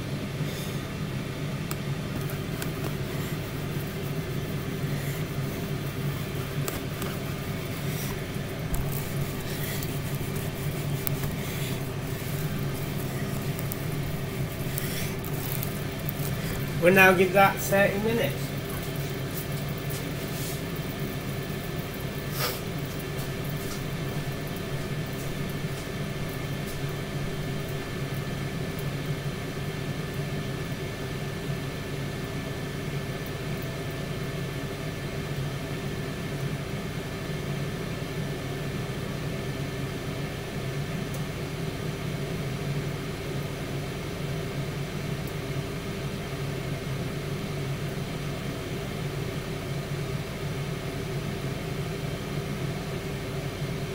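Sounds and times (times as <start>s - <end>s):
air fryer fan hum: 0.0s - 53.9s.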